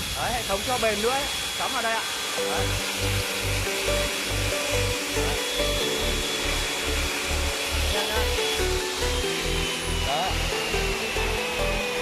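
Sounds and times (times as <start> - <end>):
workshop machinery hiss: 0.0 - 12.0.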